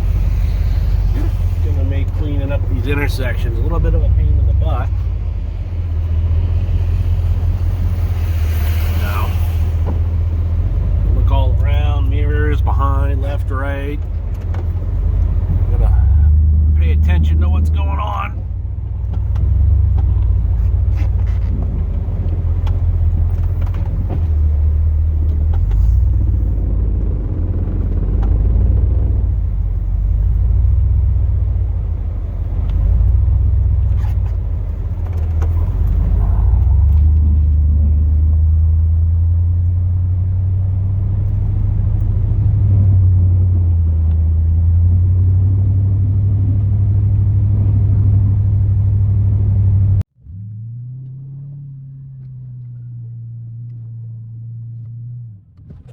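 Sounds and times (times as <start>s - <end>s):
truck engine rumble: 0.0s - 55.9s.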